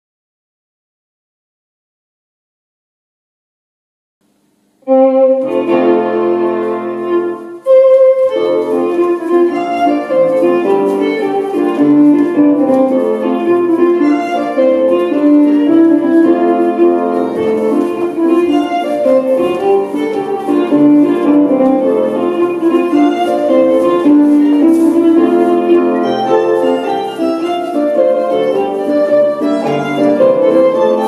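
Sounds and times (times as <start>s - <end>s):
country dance band playing a jig: 4.9s - 31.0s.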